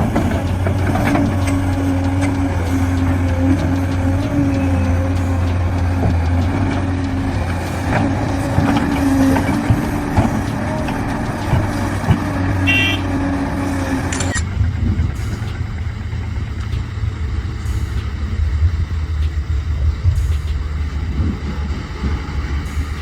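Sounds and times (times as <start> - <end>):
diesel engines droning: 0.0 - 23.0
machinery clanks: 0.0 - 23.0.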